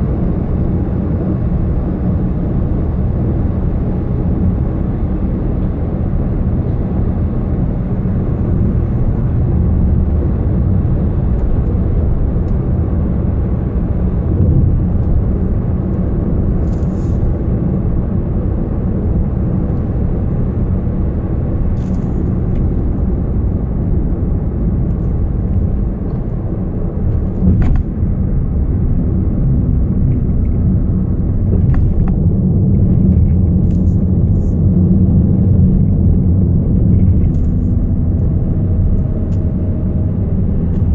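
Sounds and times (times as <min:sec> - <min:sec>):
car cabin low rumble: 0:00.0 - 0:40.9.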